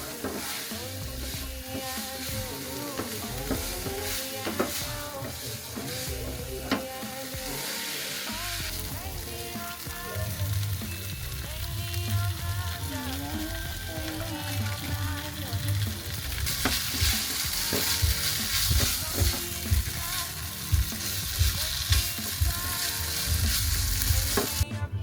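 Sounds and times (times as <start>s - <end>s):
food sizzling in a pan: 0.0s - 24.7s
background music: 0.0s - 25.0s.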